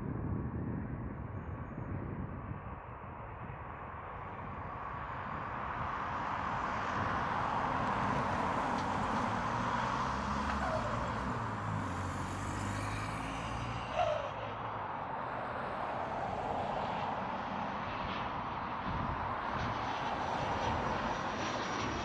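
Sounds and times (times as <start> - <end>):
jet airliner engines passing: 1.0 - 22.0.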